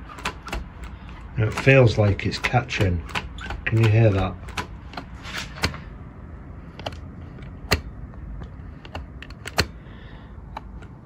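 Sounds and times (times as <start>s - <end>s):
throttle linkage clicking: 0.0s - 5.9s, 6.7s - 11.0s.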